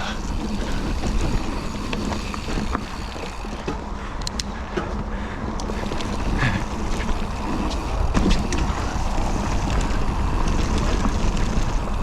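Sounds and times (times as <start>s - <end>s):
bike clicks and knocks: 0.0s - 12.0s
bike tyre noise on dirt: 0.0s - 12.0s
wind rumbling on microphone: 0.0s - 12.0s.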